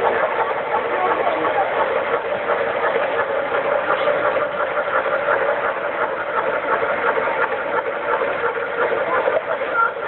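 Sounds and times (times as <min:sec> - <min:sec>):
model trains humming: 0:00.0 - 0:10.0.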